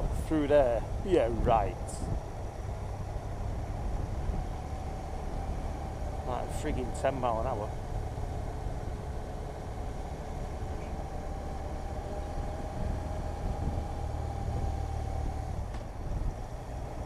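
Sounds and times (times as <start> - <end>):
motorcycle engine drone: 0.0 - 17.0
road and wind rumble: 0.0 - 17.0.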